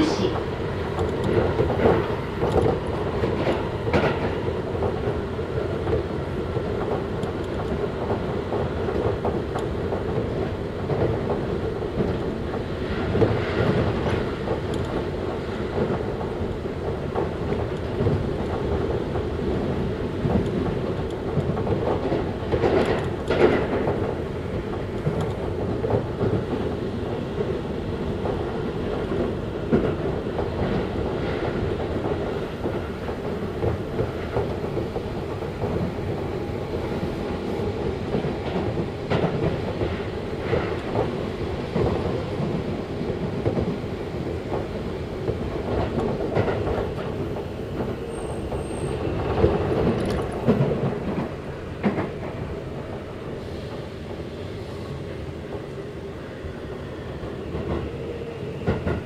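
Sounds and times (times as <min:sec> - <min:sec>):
train wheels rumbling on rail: 0:00.0 - 0:59.0
clacks over rail joints: 0:00.2 - 0:59.0.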